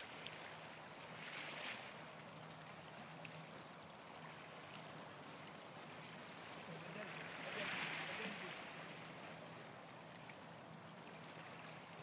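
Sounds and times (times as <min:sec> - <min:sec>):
hiss of water and wind: 0:00.0 - 0:12.0.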